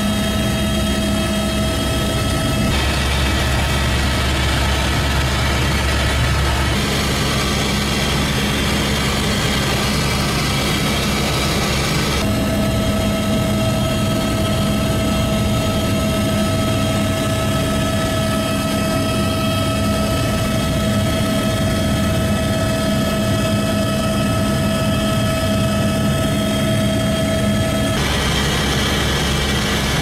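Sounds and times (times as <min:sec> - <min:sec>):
aircraft engine drone: 0:00.0 - 0:30.0
high whining tones: 0:00.3 - 0:30.0.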